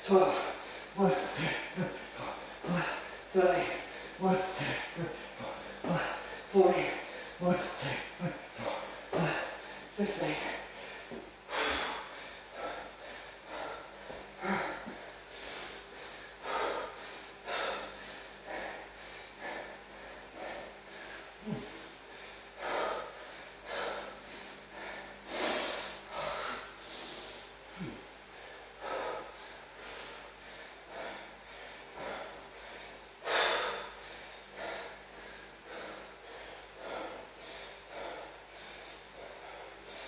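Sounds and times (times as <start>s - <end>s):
man panting heavily: 0.0s - 40.0s.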